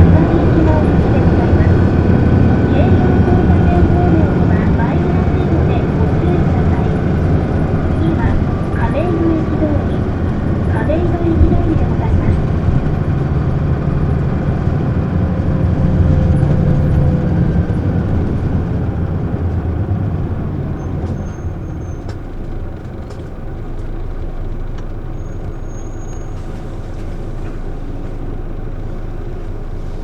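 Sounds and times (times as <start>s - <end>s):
bus diesel engine: 0.0s - 30.0s.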